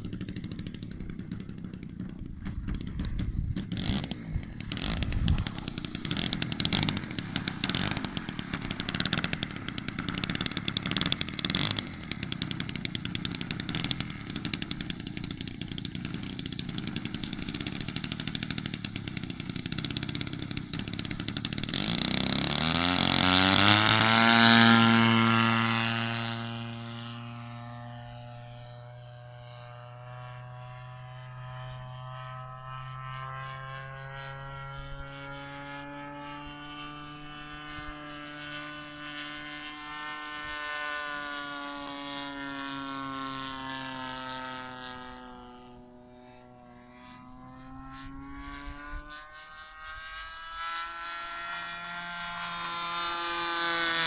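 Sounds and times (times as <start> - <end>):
model plane engine passing: 0.0 - 54.0.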